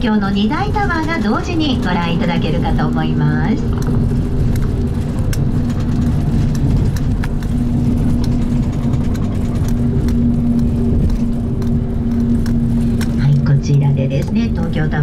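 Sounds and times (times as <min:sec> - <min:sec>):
engine and road drone: 0:00.0 - 0:15.0
humming tone: 0:00.0 - 0:15.0.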